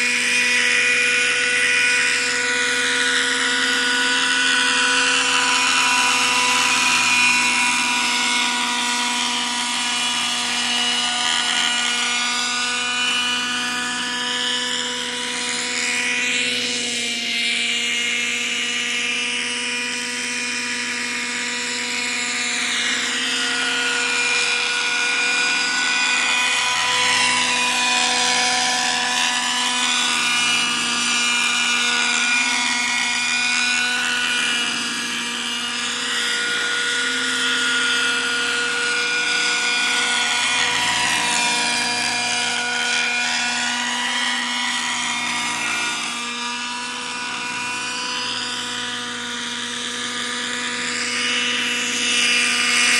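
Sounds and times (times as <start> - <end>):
model helicopter engine and rotor: 0.0 - 52.9.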